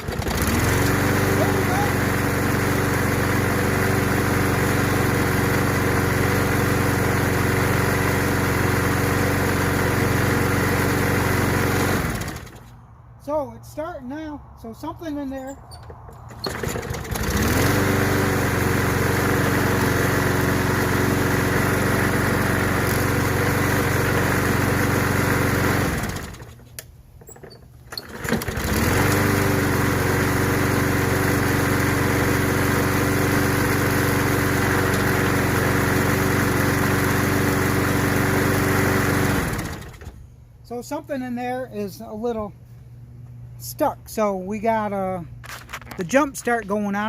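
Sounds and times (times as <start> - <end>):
lawn mower engine running: 0.0 - 12.9, 15.4 - 47.0.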